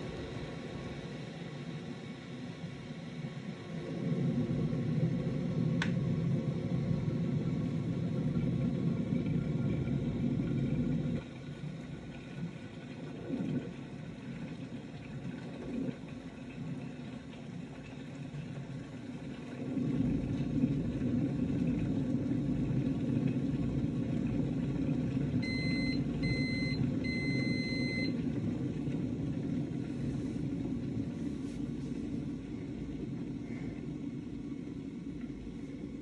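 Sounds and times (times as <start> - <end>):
electric kettle rumbling: 0.0 - 36.0.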